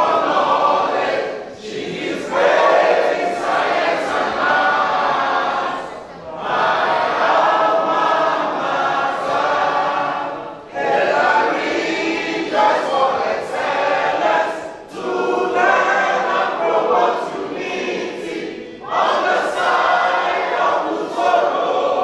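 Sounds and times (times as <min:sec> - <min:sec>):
group of people singing: 0:00.0 - 0:22.0.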